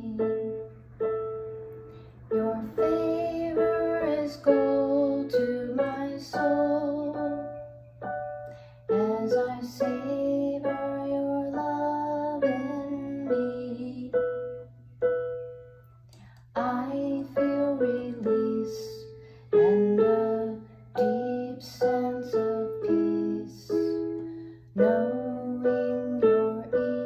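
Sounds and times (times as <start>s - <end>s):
piano chords: 0.0s - 27.0s.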